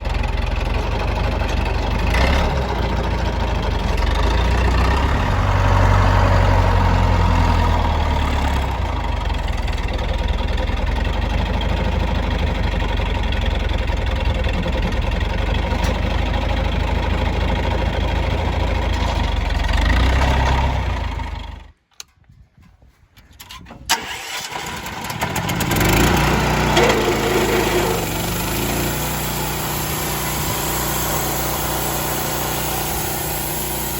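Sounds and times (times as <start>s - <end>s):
sawmill engine running: 0.0s - 21.6s, 23.9s - 33.9s.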